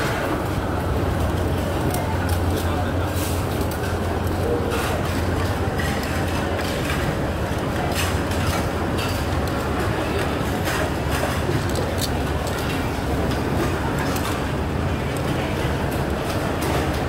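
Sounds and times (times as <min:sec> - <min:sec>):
indistinct chatter: 0:00.0 - 0:17.0.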